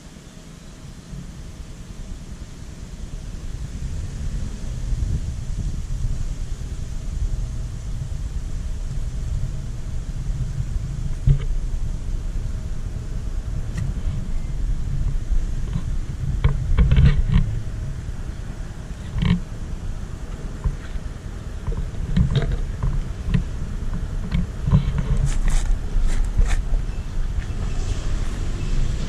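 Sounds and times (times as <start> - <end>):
low rumble: 0.8 - 29.0.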